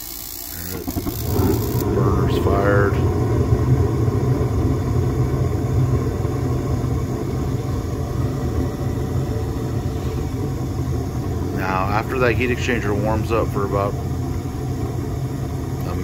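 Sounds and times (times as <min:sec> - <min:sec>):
gas furnace rumble: 0:00.0 - 0:16.0.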